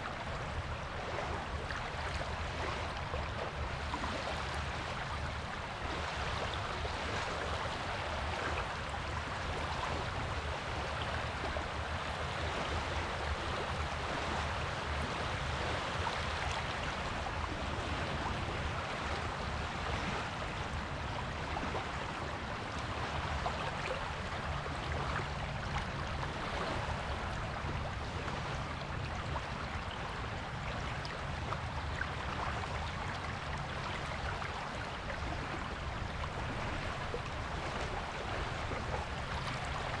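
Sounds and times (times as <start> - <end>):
waves breaking on beach: 0.0 - 40.0.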